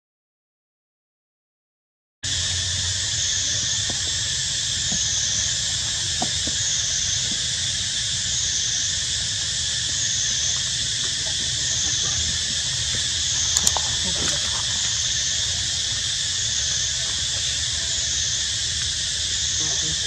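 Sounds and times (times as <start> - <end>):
high-pitched insect chorus: 2.2 - 20.0
low rumble: 2.3 - 20.0.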